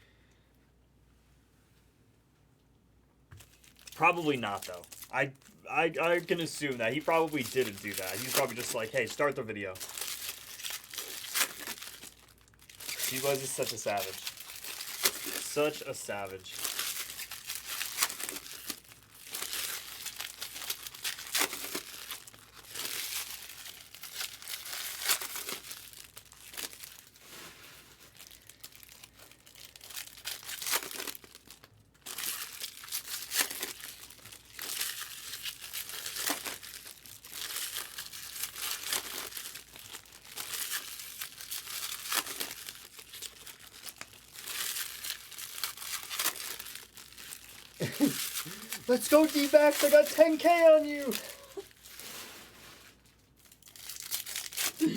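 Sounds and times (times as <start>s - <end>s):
foil wrappers crinkling and tearing: 3.4s - 54.9s.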